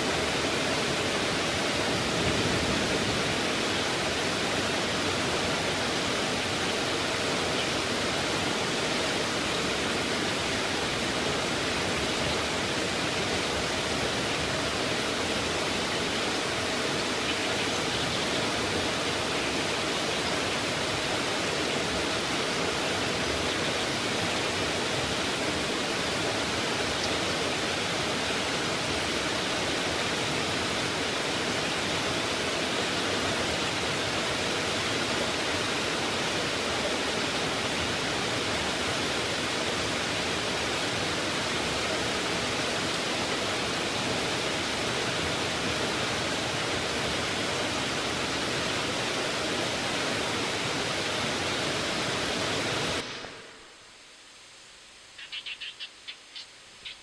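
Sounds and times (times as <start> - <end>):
heavy rain pouring: 0.0 - 54.1.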